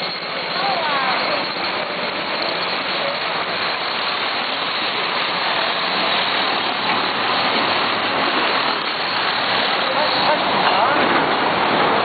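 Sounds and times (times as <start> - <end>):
hiss of traffic: 0.0 - 12.0.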